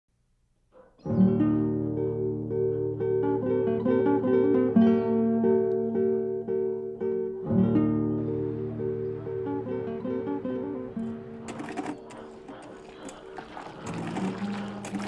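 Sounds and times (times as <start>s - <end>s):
acoustic guitar music: 1.0s - 15.0s.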